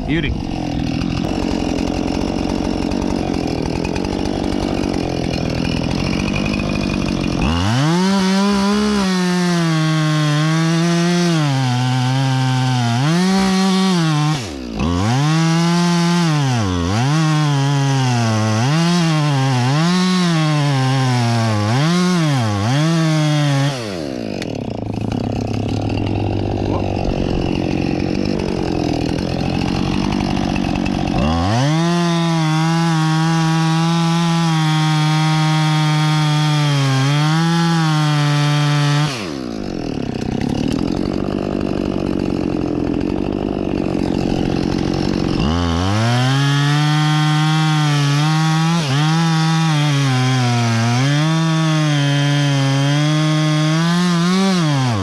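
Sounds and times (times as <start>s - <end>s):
chainsaw cutting into trunk: 0.0s - 55.0s
chainsaw idling and revving: 0.0s - 55.0s.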